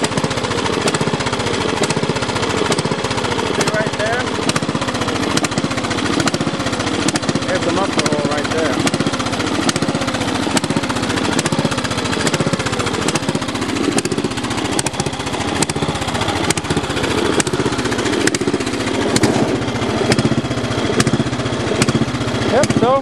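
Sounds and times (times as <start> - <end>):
lawn tractor engine chugging: 0.0 - 23.0.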